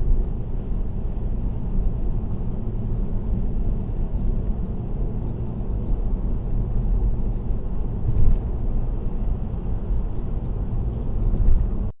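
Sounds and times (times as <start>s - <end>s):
road and tyre noise: 0.0s - 12.0s.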